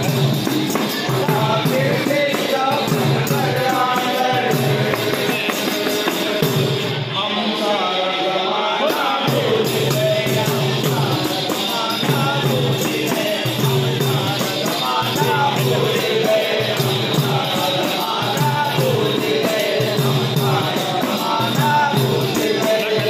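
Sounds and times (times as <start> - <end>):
steady percussion beat: 0.0 - 7.1, 8.8 - 23.0.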